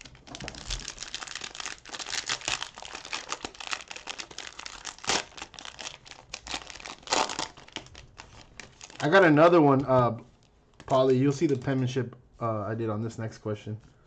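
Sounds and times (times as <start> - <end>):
plastic wrapper crinkling: 0.0 - 11.8.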